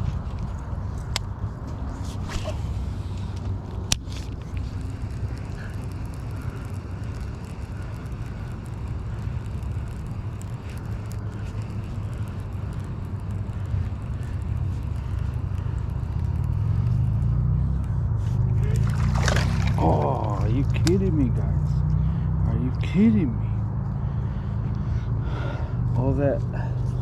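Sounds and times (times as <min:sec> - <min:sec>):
road traffic rumble: 0:00.0 - 0:27.0
vehicle engine revving: 0:01.7 - 0:27.0.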